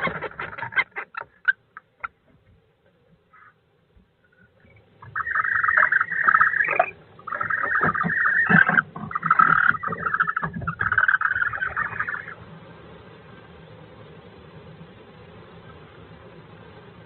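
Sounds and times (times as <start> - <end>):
kestrel buzzy pulsing calls: 0.0 - 2.2, 3.3 - 3.6, 4.2 - 16.0.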